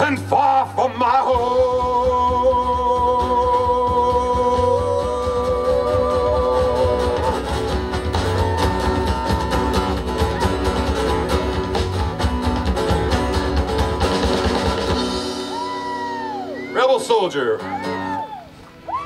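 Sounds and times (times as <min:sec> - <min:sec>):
folk song on strummed guitar: 0:00.0 - 0:16.1.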